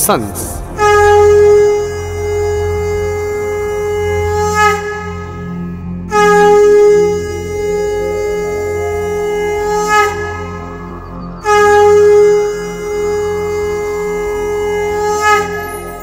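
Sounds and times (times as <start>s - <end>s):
low steady drone: 0.0s - 16.0s
wind instrument long notes: 0.0s - 16.0s.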